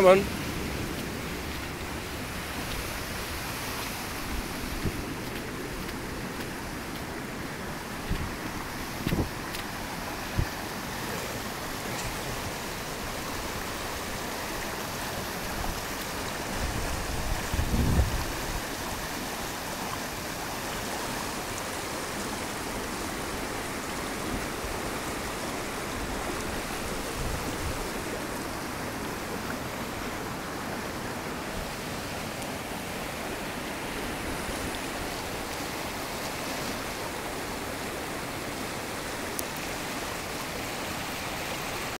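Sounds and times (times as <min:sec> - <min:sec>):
river rushing over rapids: 0:00.0 - 0:41.9.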